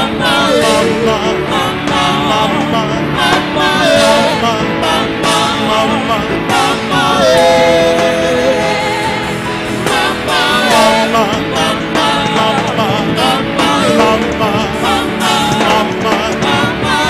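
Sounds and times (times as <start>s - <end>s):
gospel band playing: 0.0s - 17.0s
person singing wordless melody: 0.0s - 17.0s.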